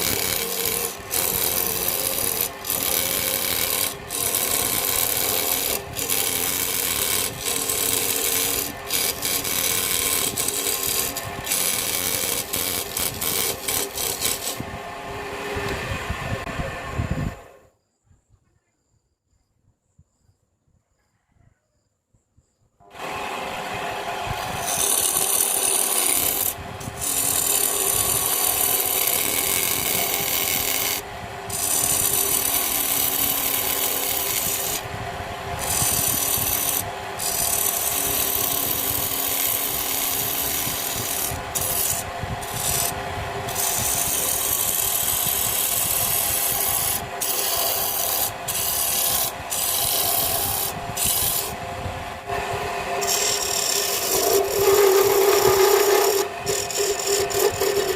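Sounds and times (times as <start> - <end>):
tool scraping spinning wood: 0.0 - 16.8, 22.9 - 57.9.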